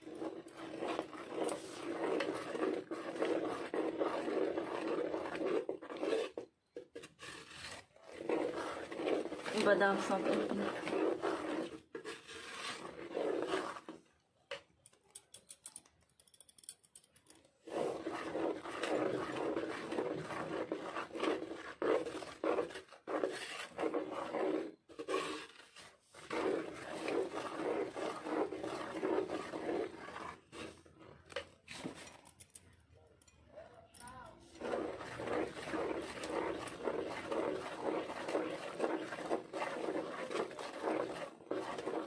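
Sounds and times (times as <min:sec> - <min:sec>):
mixer grinder grinding nuts: 0:00.0 - 0:14.0, 0:17.6 - 0:32.4, 0:34.5 - 0:42.0.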